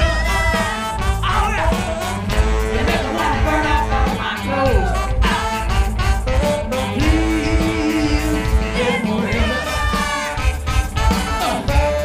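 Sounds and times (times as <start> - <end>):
voices singing: 0.0 - 5.9, 6.6 - 12.0
heavy bass and drum beat: 0.0 - 12.0
live band playing: 0.0 - 12.0.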